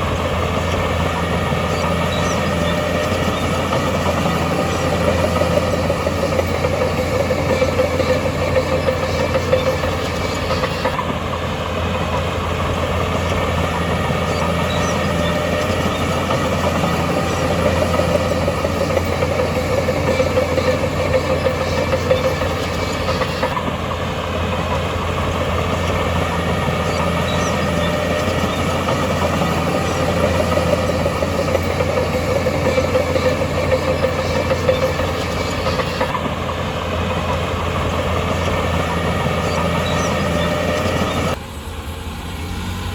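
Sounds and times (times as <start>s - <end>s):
heavy diesel machinery engine drone: 0.0s - 42.9s.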